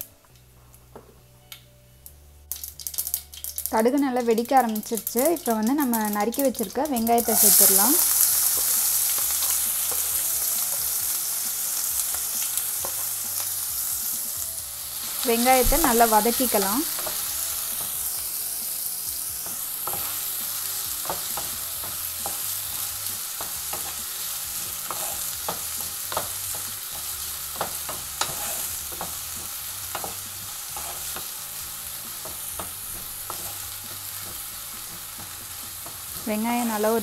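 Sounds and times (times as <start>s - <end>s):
onions sizzling in hot oil: 2.1s - 37.0s.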